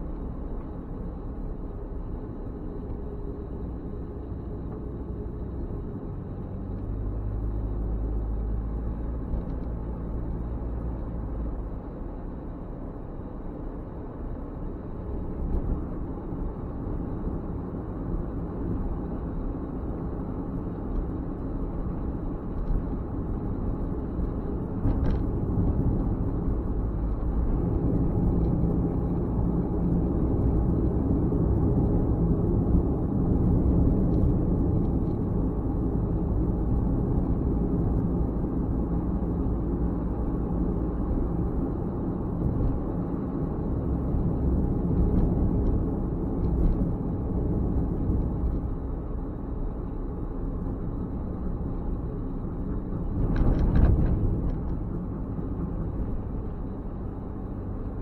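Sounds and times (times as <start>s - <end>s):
car road noise from inside: 0.0s - 58.0s.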